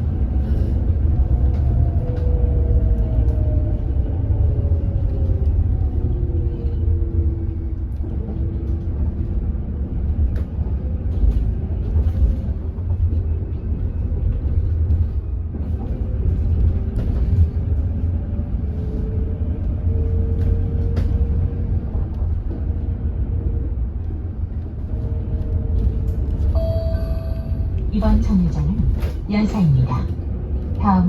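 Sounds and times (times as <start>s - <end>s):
bus rumble: 0.0s - 31.0s.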